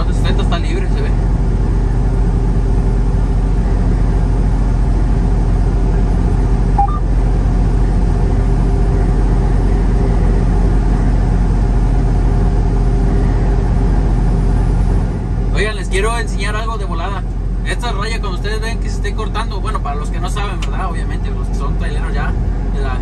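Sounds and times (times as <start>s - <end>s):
constant hum: 0.0s - 23.0s
truck engine and road drone: 0.0s - 23.0s.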